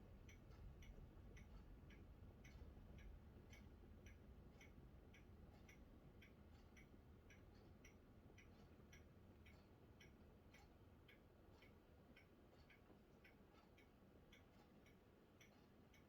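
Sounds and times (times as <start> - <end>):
faint regular ticking: 0.1 - 16.0.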